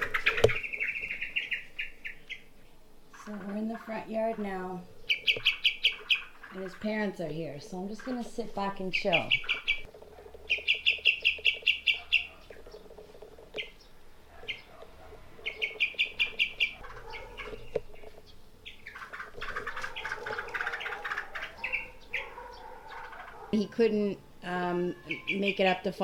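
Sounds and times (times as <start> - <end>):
bird chattering: 0.0 - 26.0
bulbuls chirping: 0.0 - 26.0.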